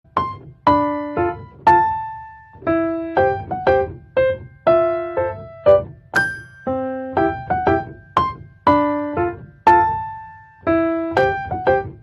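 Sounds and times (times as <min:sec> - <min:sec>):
slow piano melody: 0:00.1 - 0:12.0.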